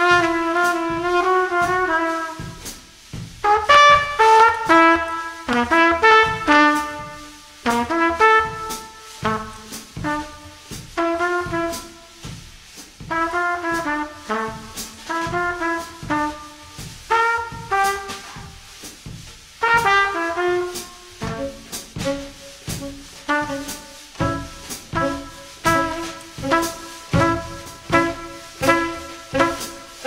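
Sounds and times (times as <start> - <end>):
trumpet playing quick phrases: 0.0 - 12.3, 13.1 - 18.9, 19.5 - 30.0
drum and cymbal hits: 0.0 - 30.0.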